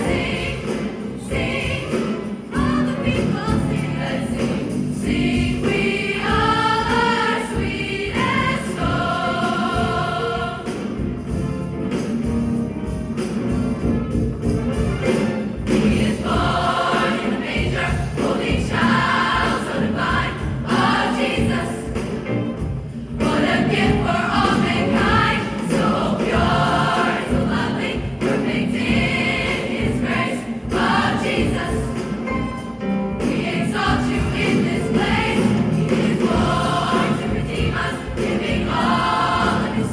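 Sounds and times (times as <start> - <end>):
choir singing: 0.0 - 11.4, 15.1 - 39.9
instrumental accompaniment: 0.0 - 39.9.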